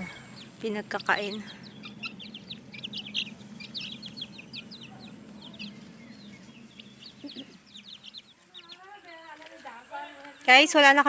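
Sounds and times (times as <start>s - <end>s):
chickens chirping: 0.0s - 11.0s.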